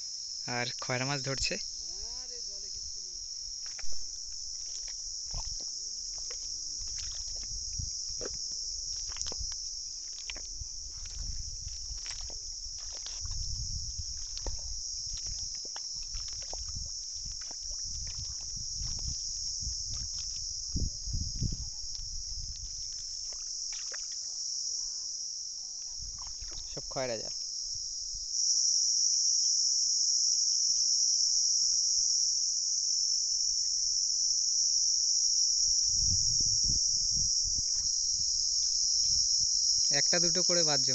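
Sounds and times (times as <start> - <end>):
insects calling shrill drone: 0.0 - 40.9.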